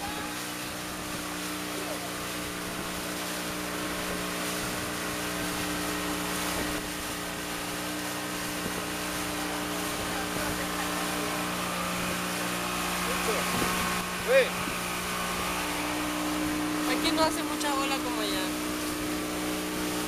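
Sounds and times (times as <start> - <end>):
boat motor running: 0.0 - 20.0
hiss of wind and water: 0.0 - 20.0.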